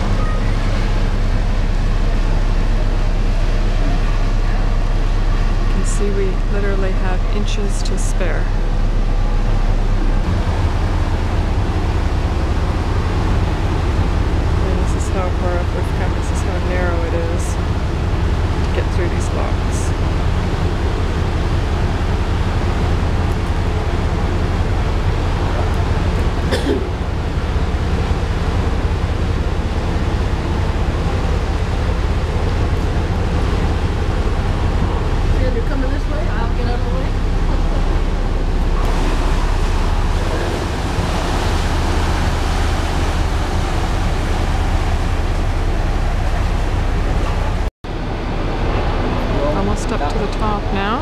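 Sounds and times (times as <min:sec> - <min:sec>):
churning water rushing: 0:00.0 - 0:51.0
deep low rumble: 0:00.0 - 0:51.0
ship engines humming: 0:00.0 - 0:51.0.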